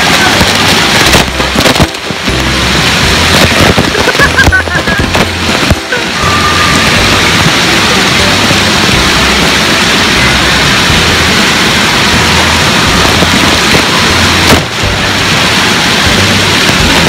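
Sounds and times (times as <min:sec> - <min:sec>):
water jets spraying: 0:00.0 - 0:17.0.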